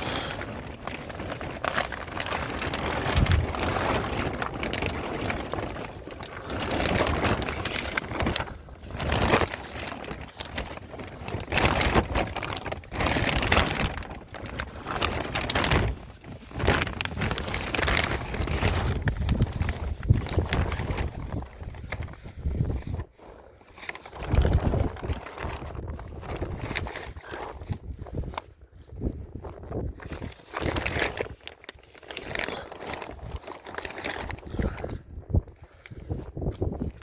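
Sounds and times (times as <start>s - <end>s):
gusty wind buffeting microphone: 0.0s - 23.3s, 24.1s - 31.4s, 34.0s - 37.0s.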